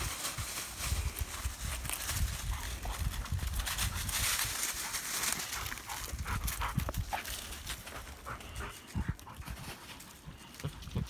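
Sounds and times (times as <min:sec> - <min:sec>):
dogs running through dry leaves: 0:00.0 - 0:10.8.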